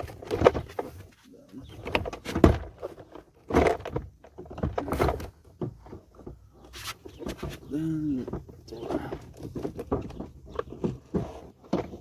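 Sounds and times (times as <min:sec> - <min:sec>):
plastic door panel rattling: 0:01.6 - 0:12.0.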